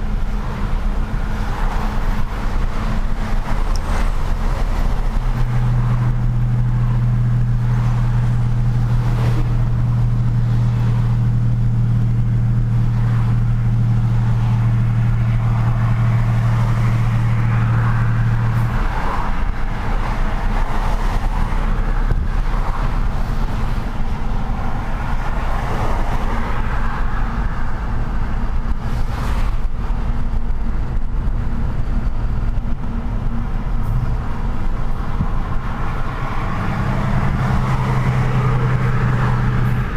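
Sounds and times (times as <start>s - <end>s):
road and traffic rumble: 0.0s - 39.9s
truck engine hum: 0.0s - 39.9s.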